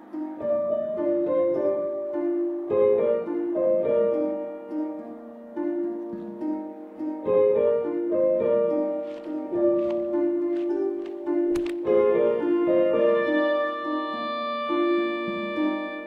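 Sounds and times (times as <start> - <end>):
plucked instrumental melody: 0.0 - 16.0.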